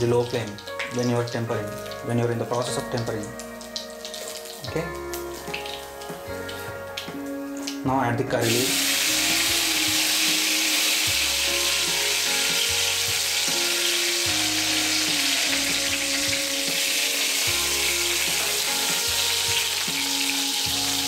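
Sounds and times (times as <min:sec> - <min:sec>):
background music: 0:00.0 - 0:21.0
spices sizzling in hot oil: 0:00.0 - 0:21.0.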